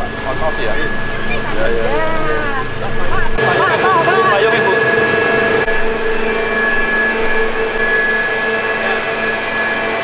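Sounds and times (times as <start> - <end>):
pump machinery whine and hum: 0.0 - 10.0.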